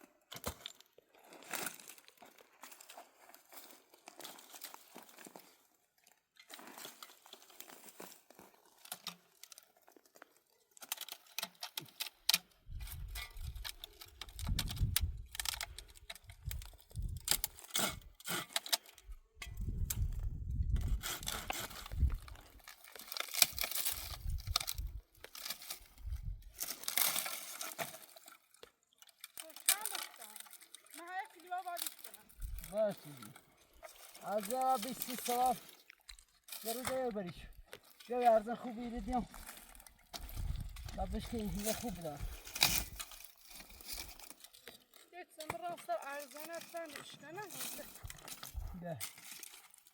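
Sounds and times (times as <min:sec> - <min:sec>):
twigs snapping and rustling: 0:00.3 - 0:49.9.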